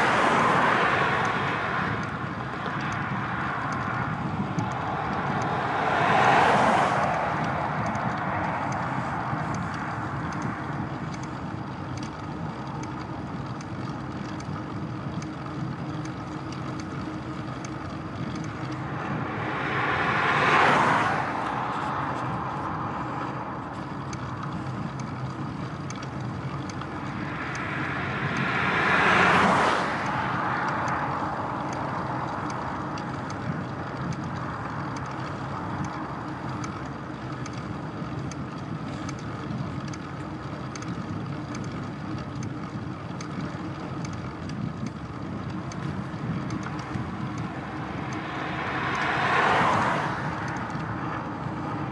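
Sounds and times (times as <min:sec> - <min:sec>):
motor vehicles passing: 0:00.0 - 0:51.9
rushing wind and road noise: 0:00.0 - 0:51.9.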